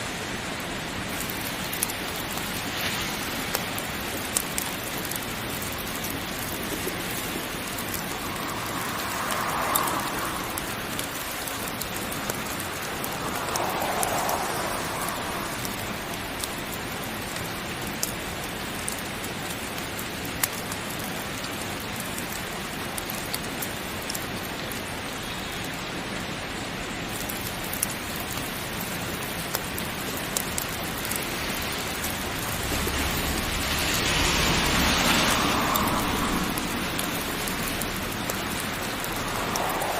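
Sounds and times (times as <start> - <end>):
heavy rain falling: 0.0 - 39.9
raindrop ticks: 0.5 - 25.8, 27.0 - 39.9.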